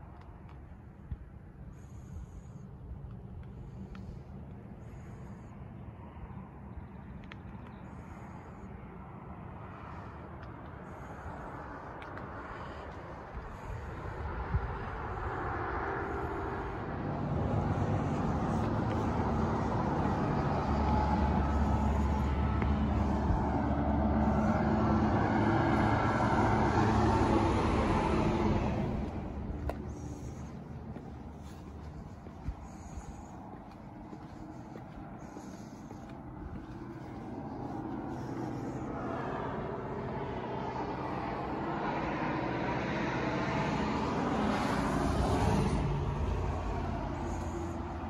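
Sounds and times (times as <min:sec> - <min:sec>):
highway traffic: 0:00.0 - 0:48.0
road vehicle passing: 0:01.6 - 0:48.0.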